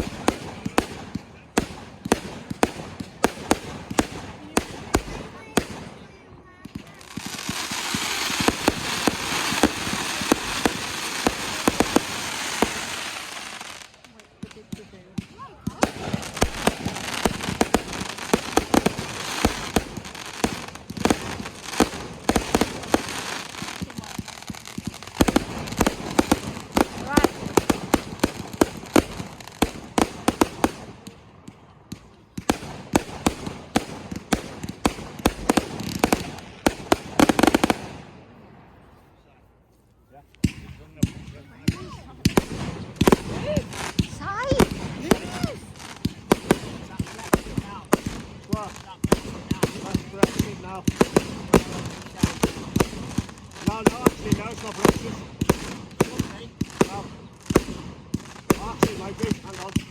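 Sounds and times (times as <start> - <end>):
firework fountain hissing: 0.0 - 6.2, 6.8 - 31.1, 32.4 - 38.1, 41.7 - 59.9
sharp crackles and pops: 0.0 - 38.2, 40.2 - 59.9.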